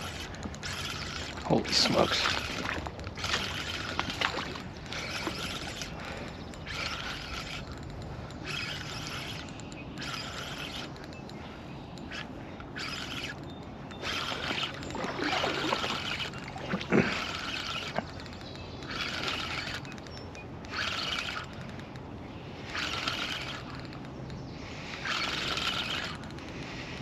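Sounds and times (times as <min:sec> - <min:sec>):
fishing reel whirring: 0:00.0 - 0:27.0.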